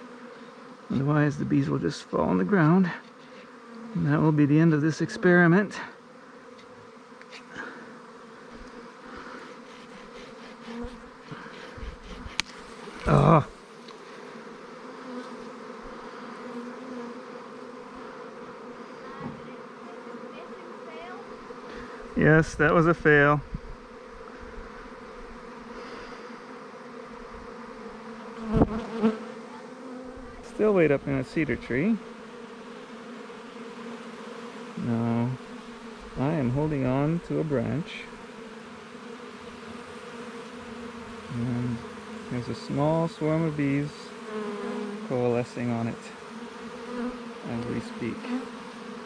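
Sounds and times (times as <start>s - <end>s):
honeybees buzzing: 0.0s - 49.0s.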